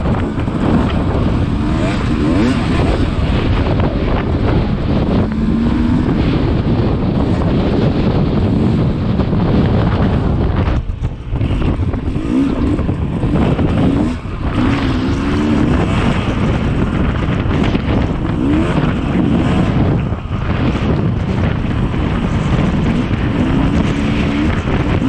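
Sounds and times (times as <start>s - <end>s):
dirt bike engine revving: 0.0s - 25.0s
wind buffeting microphone: 0.0s - 25.0s.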